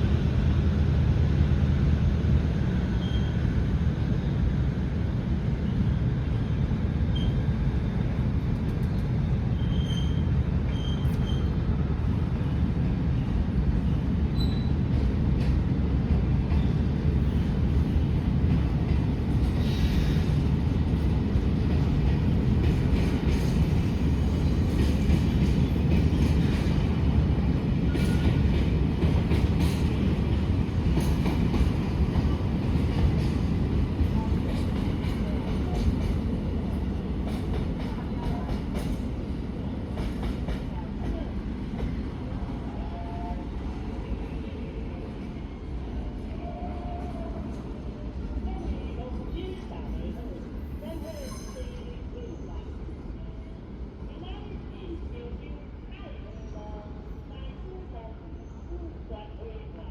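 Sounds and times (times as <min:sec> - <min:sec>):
freight train rumbling past: 0:00.0 - 0:58.3.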